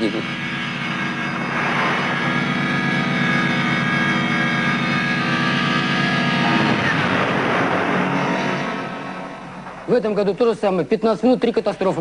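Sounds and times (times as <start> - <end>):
aircraft engine droning: 0.0 - 10.4.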